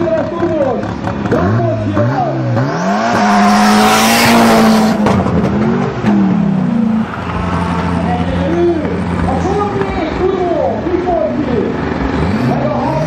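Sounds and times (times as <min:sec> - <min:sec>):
car engines revving at full throttle: 0:00.0 - 0:13.0.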